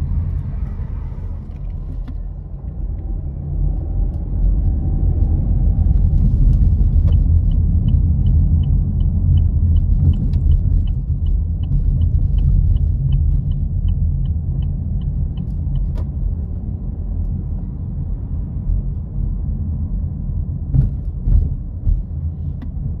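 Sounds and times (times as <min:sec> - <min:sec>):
vehicle low rumble: 0:00.0 - 0:23.0.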